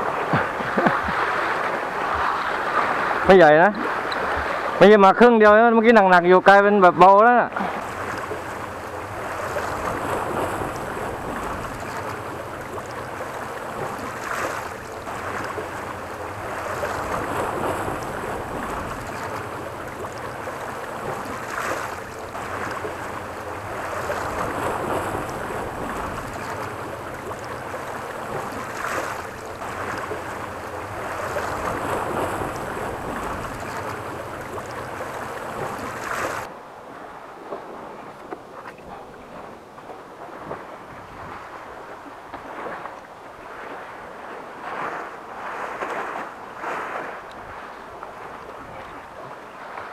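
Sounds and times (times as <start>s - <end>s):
waves washing against rocks: 0.0s - 38.0s, 38.8s - 49.9s
wind on microphone: 7.8s - 49.8s.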